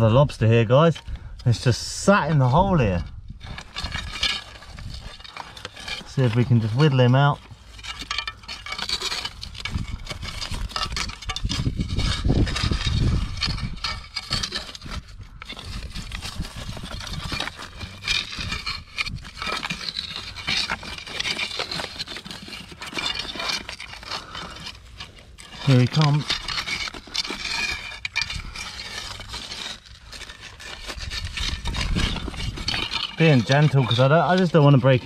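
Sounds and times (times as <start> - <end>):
metal hook scraping rocks: 0.0 - 35.0.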